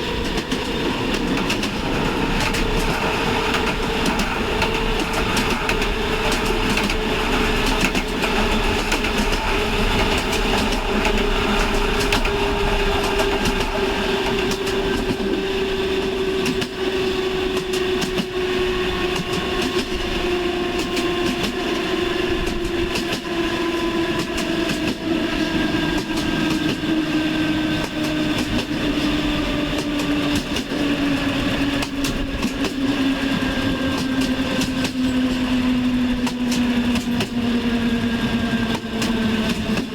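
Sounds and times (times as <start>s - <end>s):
rail clicks: 0.0s - 39.9s
train running on rails: 0.0s - 39.9s.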